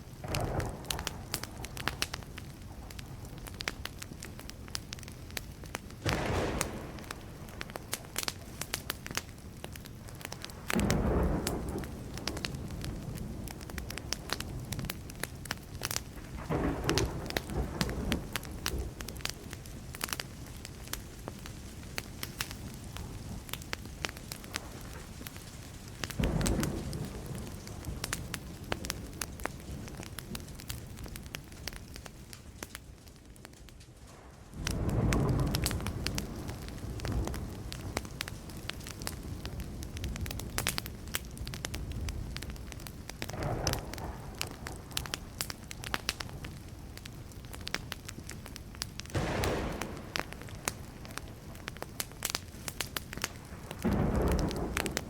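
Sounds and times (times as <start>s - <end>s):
burning wood crackling: 0.0s - 55.0s
distant thunder rumbles: 0.1s - 4.5s, 5.8s - 20.0s, 22.0s - 31.3s, 34.0s - 40.6s, 41.5s - 46.7s, 49.0s - 55.0s.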